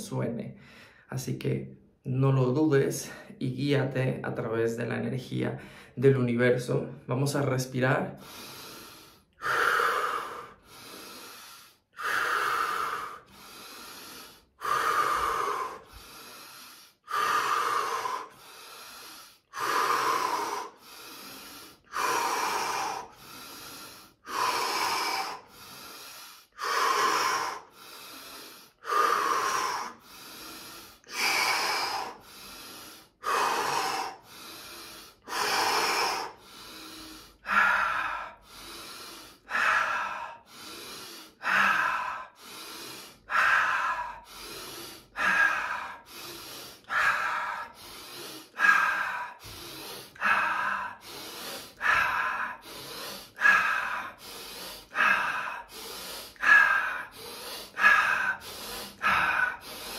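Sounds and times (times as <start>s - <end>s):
person breathing deeply: 0.0s - 1.2s, 5.5s - 6.1s, 8.1s - 59.9s.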